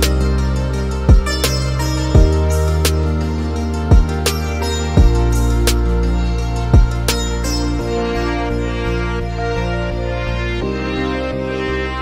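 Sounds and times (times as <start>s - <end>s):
background music sustained tones: 0.0s - 12.0s.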